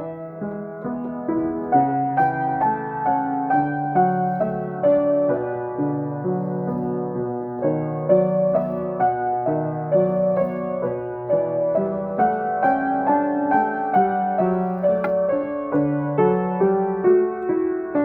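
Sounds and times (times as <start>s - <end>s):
gentle piano improvisation: 0.0s - 18.0s.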